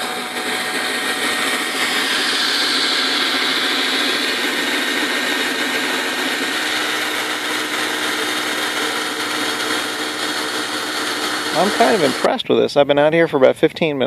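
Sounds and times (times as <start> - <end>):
cordless drill motor whine: 0.0 - 12.4.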